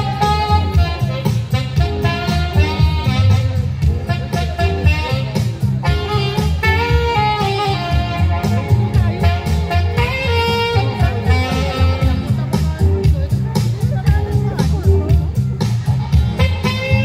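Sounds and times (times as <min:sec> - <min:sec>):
live band music over speakers: 0:00.0 - 0:17.0
steady drum beat: 0:00.0 - 0:17.0.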